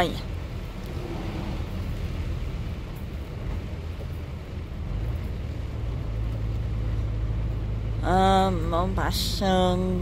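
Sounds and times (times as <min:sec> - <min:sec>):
diesel truck engine drone: 0:00.0 - 0:10.0.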